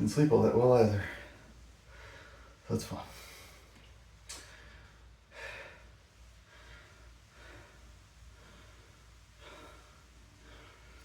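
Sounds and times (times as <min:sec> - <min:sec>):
man breathing hard: 0:01.1 - 0:11.0.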